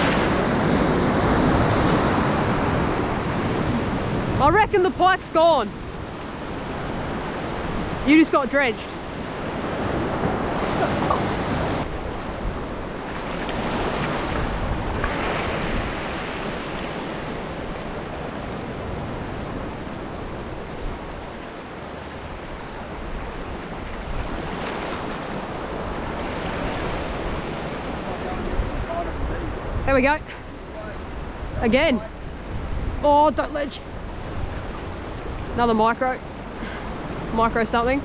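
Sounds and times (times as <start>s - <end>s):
sea waves washing over rocks: 0.0s - 38.0s
wind buffeting microphone: 0.0s - 38.0s.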